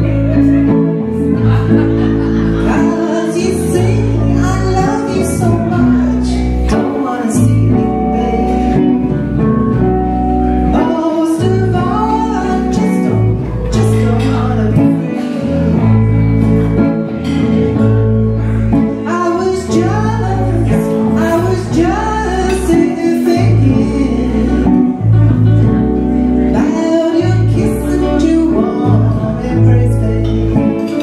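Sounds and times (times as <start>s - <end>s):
woman singing: 0.0s - 1.2s, 2.6s - 16.4s, 18.5s - 31.0s
electric and acoustic guitars: 0.0s - 31.0s.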